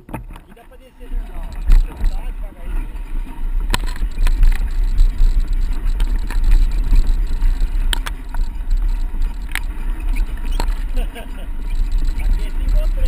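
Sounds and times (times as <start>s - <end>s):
bike clicks and knocks: 0.0s - 13.0s
wind rumbling on microphone: 0.0s - 13.0s.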